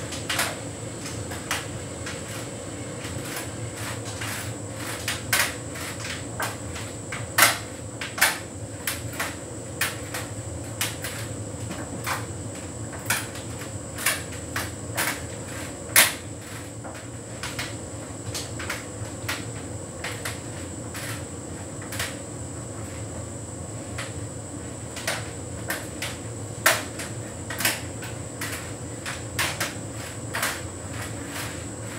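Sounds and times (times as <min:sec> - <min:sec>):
tumble dryer humming: 0:00.0 - 0:31.9.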